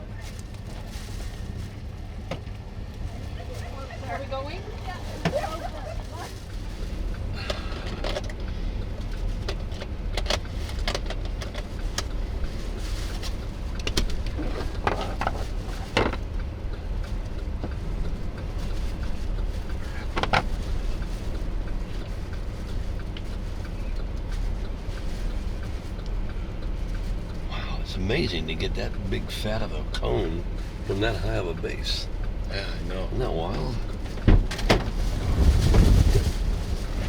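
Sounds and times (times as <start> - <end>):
vehicle driving rumble from inside: 0.0 - 37.0.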